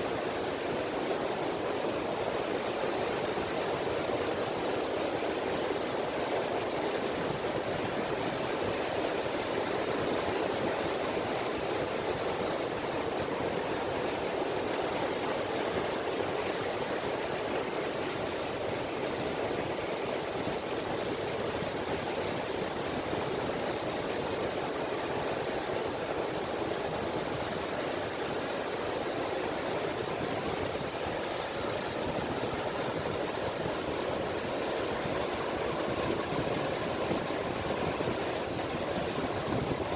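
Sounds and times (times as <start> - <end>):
sea ripples washing on shore: 0.2 - 39.9.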